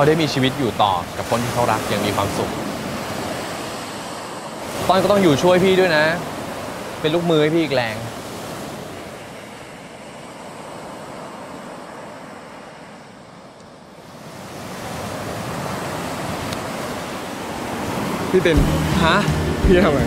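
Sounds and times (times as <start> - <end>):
ocean surf washing onto beach: 0.0 - 20.0.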